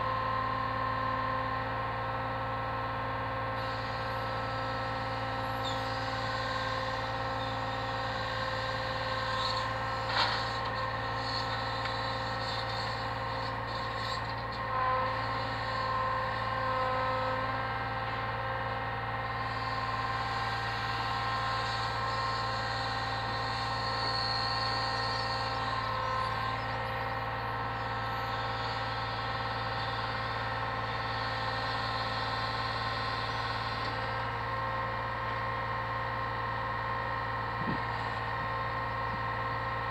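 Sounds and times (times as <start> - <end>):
hydraulic whine: 0.0 - 39.9.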